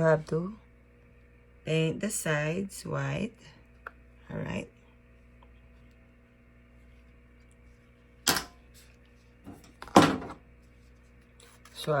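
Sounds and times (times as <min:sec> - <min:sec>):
quiet room hum: 0:00.0 - 0:12.0.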